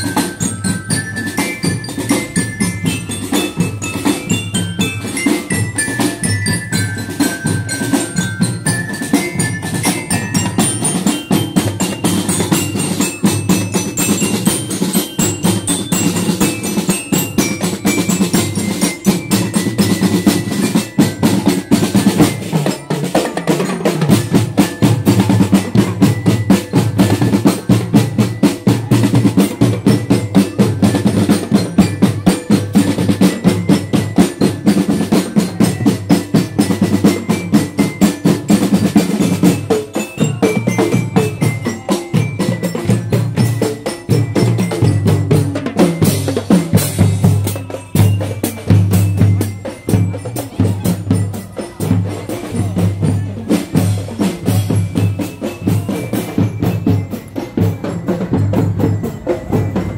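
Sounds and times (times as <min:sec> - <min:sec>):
glockenspiel melody: 0:00.0 - 0:59.9
snare and tenor drums: 0:00.0 - 0:59.9.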